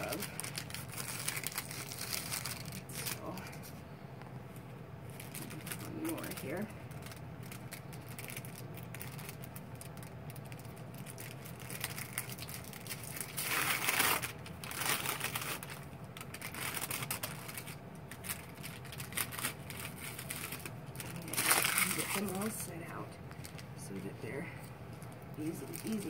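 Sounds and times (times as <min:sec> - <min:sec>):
paper rustle: 0:00.0 - 0:03.8, 0:05.1 - 0:22.6
paper wrapper crinkling: 0:00.0 - 0:03.9, 0:05.1 - 0:26.0.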